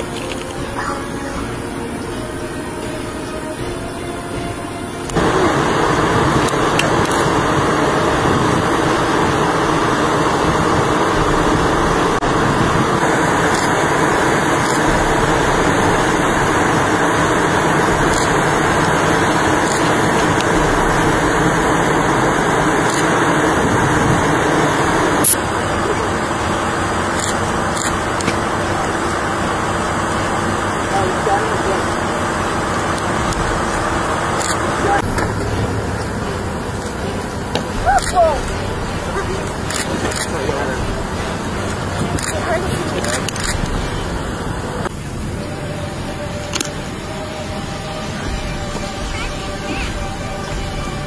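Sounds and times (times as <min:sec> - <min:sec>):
loud rushing noise: 0:00.0 - 0:51.0.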